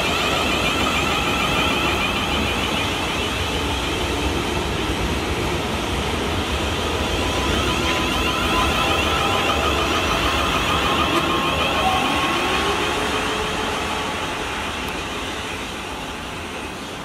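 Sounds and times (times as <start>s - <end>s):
train traction whine: 0.0s - 17.0s
wheels rumbling on rails: 0.0s - 17.0s.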